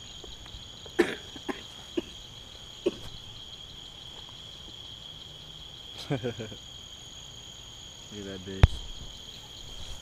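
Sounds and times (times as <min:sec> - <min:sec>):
night insects chorus: 0:00.0 - 0:10.0.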